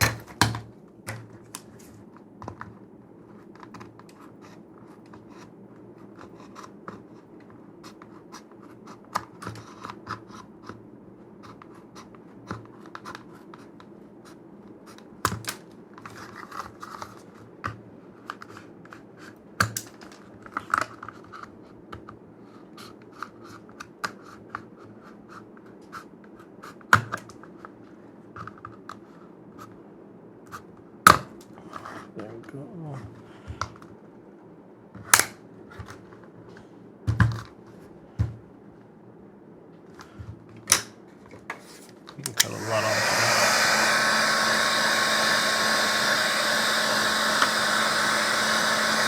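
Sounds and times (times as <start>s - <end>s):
low background hum: 0.0s - 42.8s.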